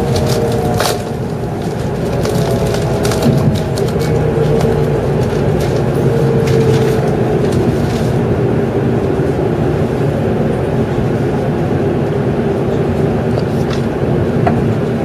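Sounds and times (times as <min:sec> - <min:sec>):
train rumbling with faint whine: 0:00.0 - 0:15.0.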